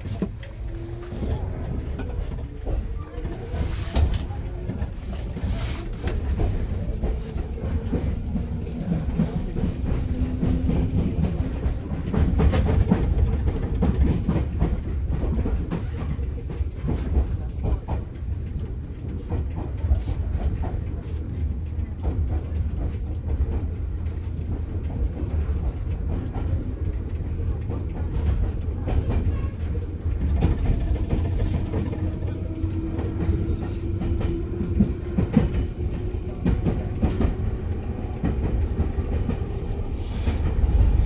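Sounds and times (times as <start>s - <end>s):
track clicks and knocks: 0.0s - 41.0s
train wheels rumbling on rail: 0.0s - 41.0s.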